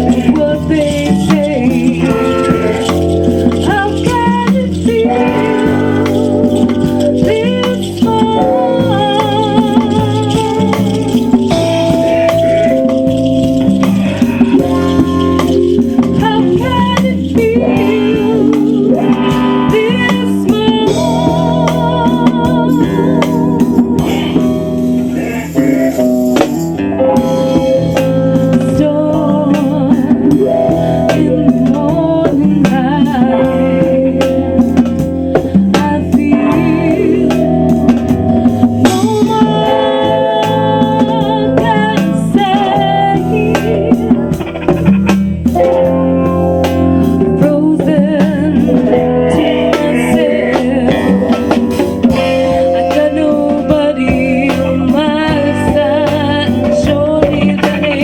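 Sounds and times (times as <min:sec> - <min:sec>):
person singing: 0:00.0 - 0:45.8, 0:47.2 - 0:58.0
drums: 0:00.0 - 0:58.0
guitar: 0:00.0 - 0:58.0.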